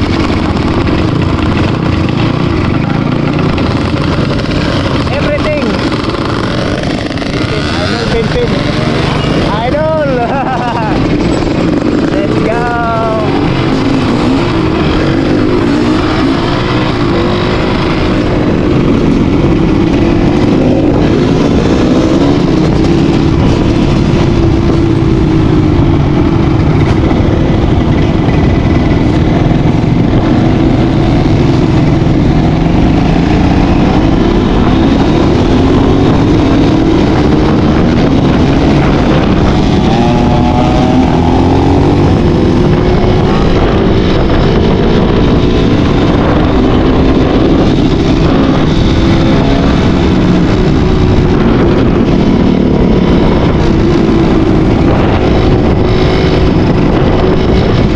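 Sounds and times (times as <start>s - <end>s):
dirt bike engine revving: 0.0s - 57.9s
steady rush of noise: 0.0s - 57.9s.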